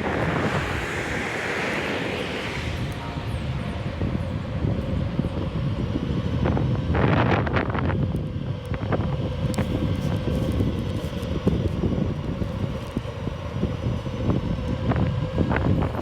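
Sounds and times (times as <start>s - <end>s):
faint steady whine: 0.0s - 16.0s
wind rumbling on microphone: 0.0s - 16.0s.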